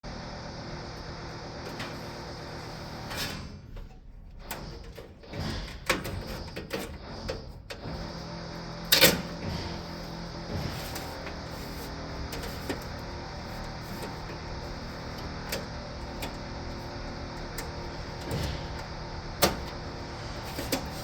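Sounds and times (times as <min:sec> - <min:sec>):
air conditioner fan hum: 0:00.0 - 0:21.0.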